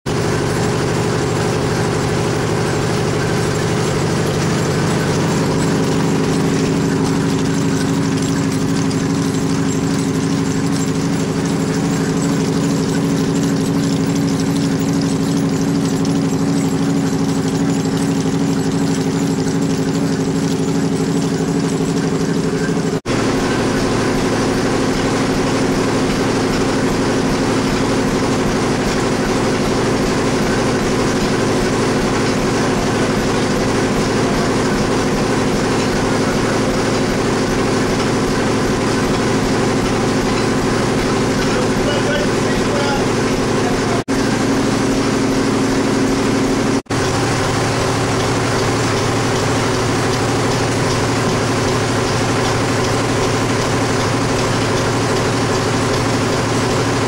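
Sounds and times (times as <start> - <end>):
cotton gin machine drone: 0.1 - 57.0.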